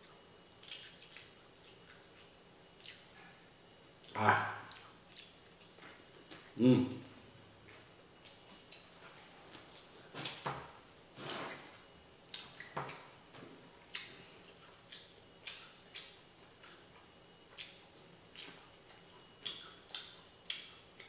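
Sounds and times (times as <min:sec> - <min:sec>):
wet chewing smacks: 0:00.0 - 0:03.4, 0:04.0 - 0:06.6, 0:07.6 - 0:13.1, 0:13.8 - 0:21.0.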